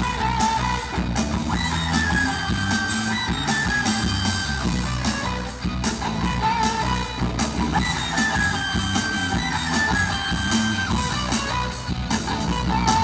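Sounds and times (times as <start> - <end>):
held electric guitar melody: 0.0 - 13.0
live rock band playing: 0.0 - 13.0.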